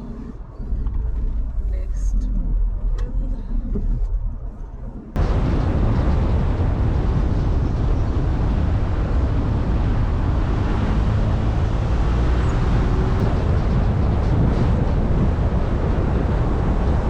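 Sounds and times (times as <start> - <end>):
car engine and tyres rumble: 0.0 - 17.0.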